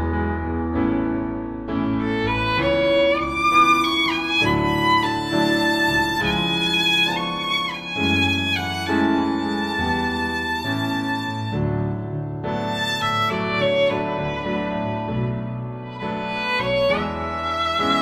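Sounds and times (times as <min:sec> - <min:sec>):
violin melody: 0:01.7 - 0:18.0.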